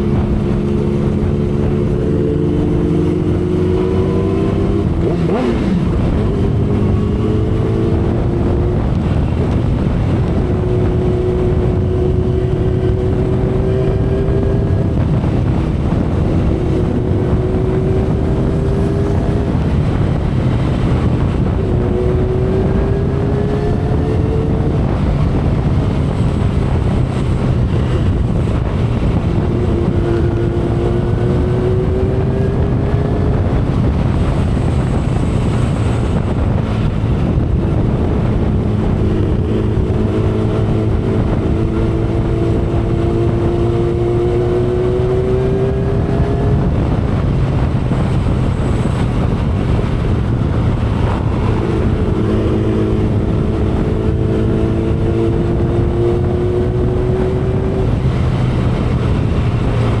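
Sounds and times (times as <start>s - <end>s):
motorcycle engine running: 0.0s - 60.0s
wind rush on microphone: 0.0s - 60.0s.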